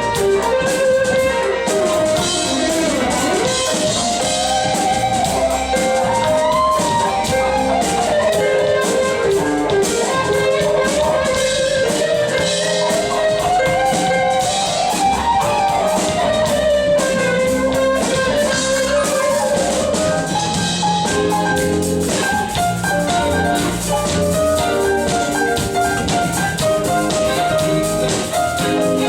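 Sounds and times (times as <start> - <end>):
sliding lead melody: 0.0 - 29.0
smooth jazz band playing: 0.0 - 29.0.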